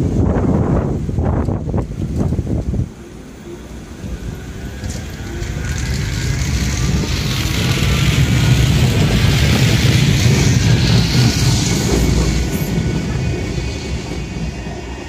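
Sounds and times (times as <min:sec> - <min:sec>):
wind buffeting microphone: 0:00.0 - 0:03.1, 0:03.8 - 0:15.0
tram running on rails: 0:00.0 - 0:15.0.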